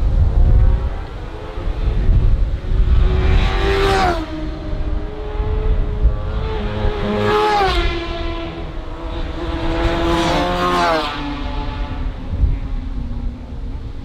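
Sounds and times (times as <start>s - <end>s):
racing motorcycles at full throttle: 0.0s - 14.0s.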